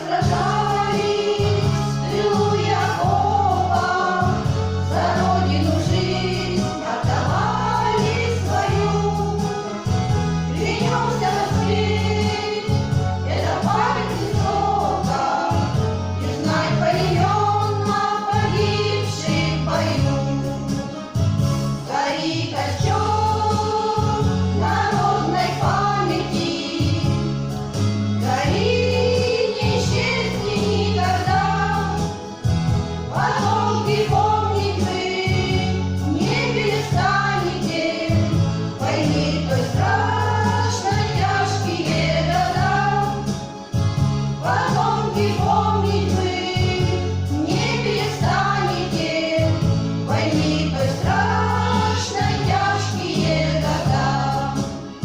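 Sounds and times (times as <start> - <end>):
women singing together: 0.0 - 21.0, 21.8 - 27.6, 28.2 - 43.8, 44.4 - 55.0
instrumental accompaniment with bass: 0.0 - 55.0.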